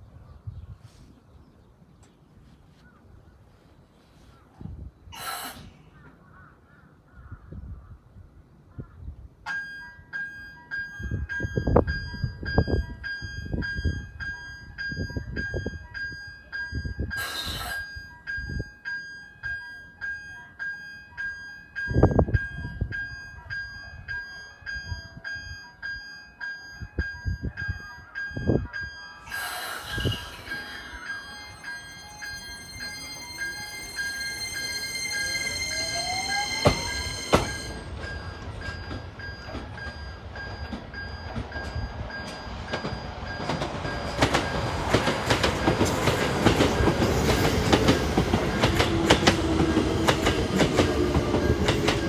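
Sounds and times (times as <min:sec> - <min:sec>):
electronic railway warning tone: 0:09.4 - 0:52.0.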